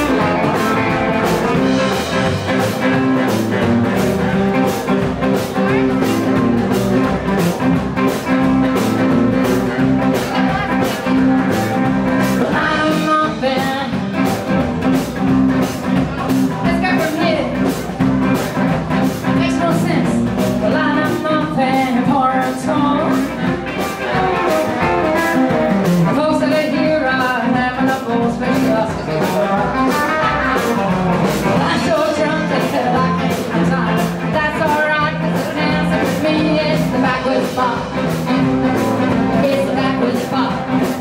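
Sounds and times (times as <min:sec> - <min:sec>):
blues band playing: 0:00.0 - 0:41.0.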